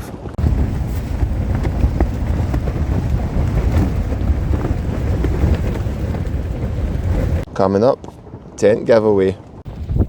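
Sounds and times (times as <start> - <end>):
gusting wind buffeting microphone: 0.0 - 10.0.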